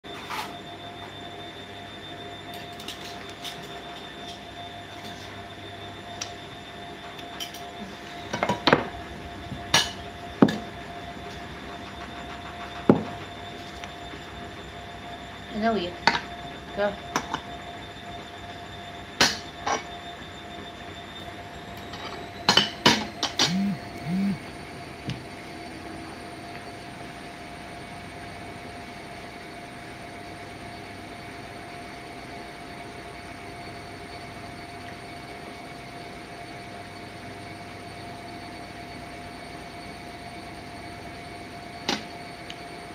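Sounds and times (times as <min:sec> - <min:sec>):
thin steady whine: 0:00.0 - 0:42.9.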